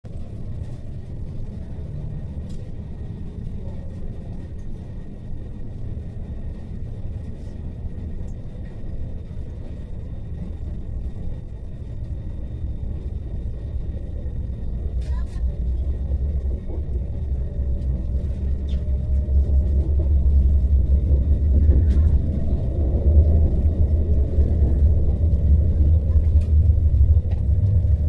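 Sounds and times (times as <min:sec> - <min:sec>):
train cabin rumble: 0:00.0 - 0:28.0.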